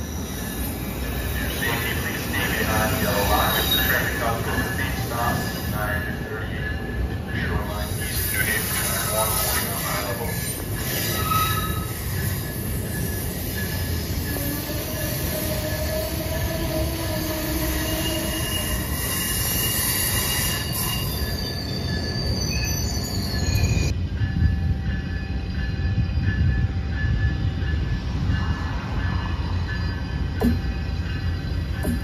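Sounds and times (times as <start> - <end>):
heavy low train rumble: 0.0 - 32.0
train wheels squealing: 0.0 - 32.0.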